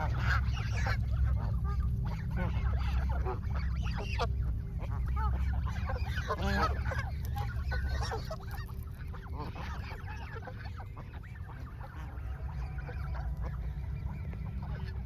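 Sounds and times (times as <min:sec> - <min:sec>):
geese honking: 0:00.0 - 0:15.0
steady low rumble: 0:00.0 - 0:15.0.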